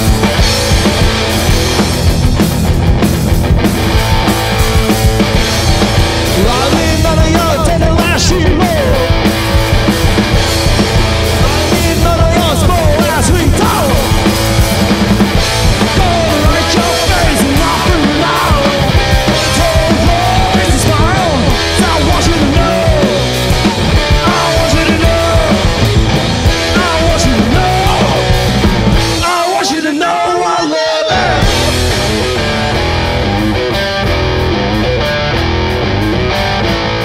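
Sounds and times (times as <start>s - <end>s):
punk rock band playing live: 0.0s - 37.0s.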